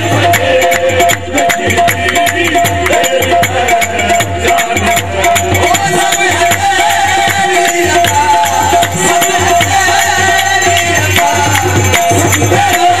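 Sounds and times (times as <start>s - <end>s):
rattling percussion: 0.0s - 13.0s
rhythmic drumming: 0.0s - 13.0s.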